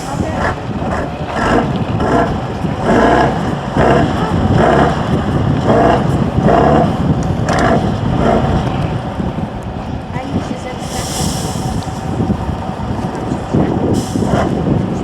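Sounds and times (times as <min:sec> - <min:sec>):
truck engine working hard: 0:00.0 - 0:15.0.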